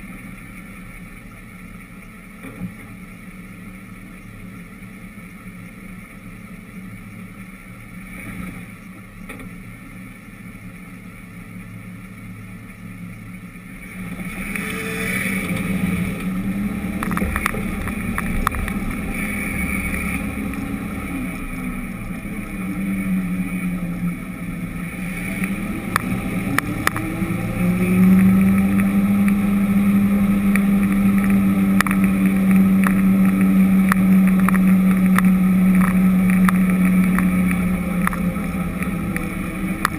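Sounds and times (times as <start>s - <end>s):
vehicle engine: 0.0s - 39.9s.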